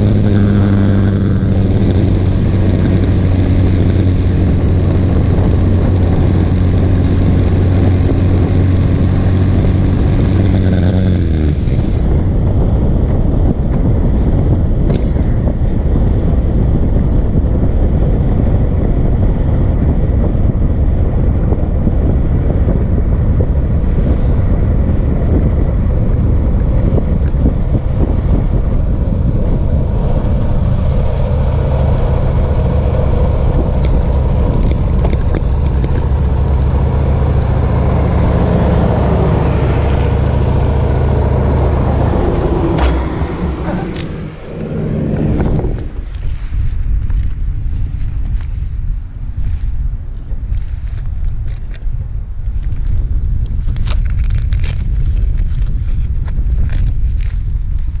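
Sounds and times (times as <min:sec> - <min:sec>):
motorcycle engine running: 0:00.0 - 0:58.0
wind buffeting on microphone: 0:00.0 - 0:58.0.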